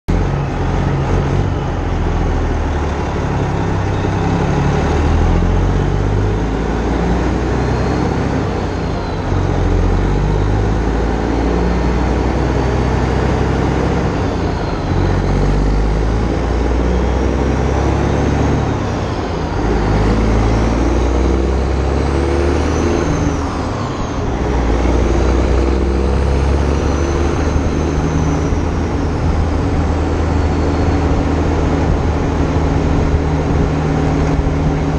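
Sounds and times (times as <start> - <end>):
diesel truck engine: 0.0 - 34.9.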